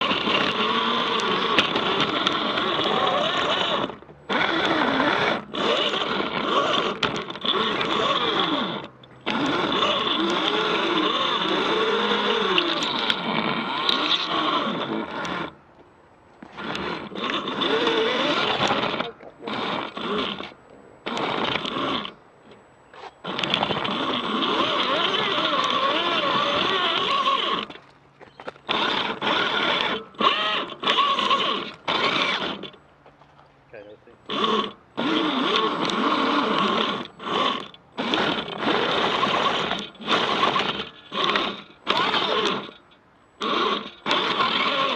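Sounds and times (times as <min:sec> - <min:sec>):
electric motor and gears whining: 0:00.0 - 0:44.9.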